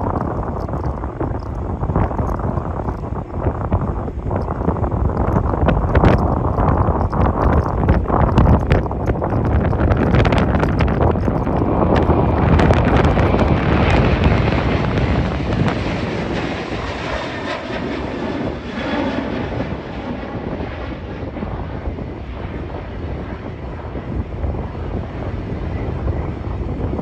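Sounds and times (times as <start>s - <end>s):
jet engines roaring past: 0.0s - 27.0s.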